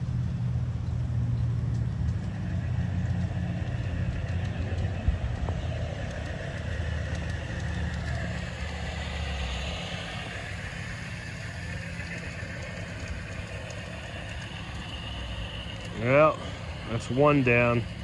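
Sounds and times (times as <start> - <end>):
model train motor hum: 0.0 - 18.0
train wheel noise: 0.0 - 18.0.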